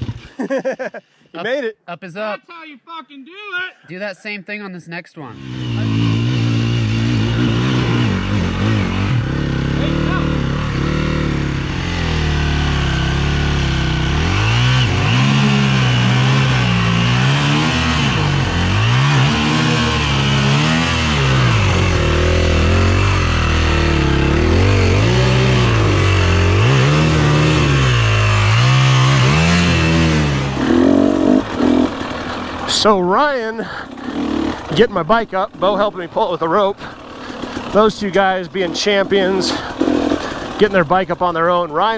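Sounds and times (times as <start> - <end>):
dirt bike engine revving: 5.3 - 41.9.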